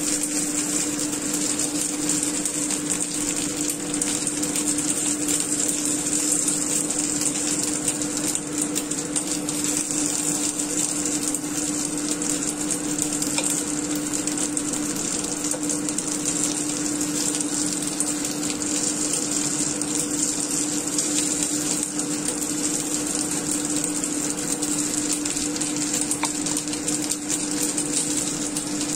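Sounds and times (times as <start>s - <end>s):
dumplings sizzling in a pan: 0.0s - 28.9s.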